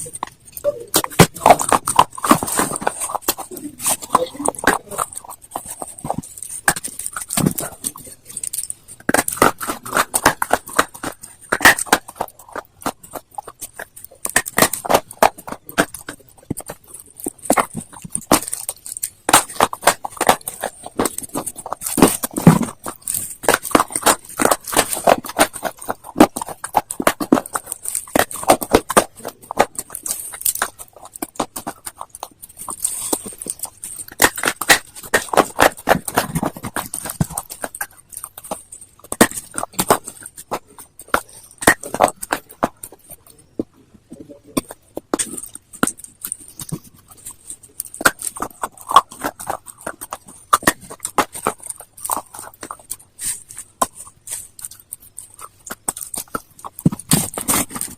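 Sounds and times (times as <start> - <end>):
person chewing hard stone crunching: 0.0 - 57.9.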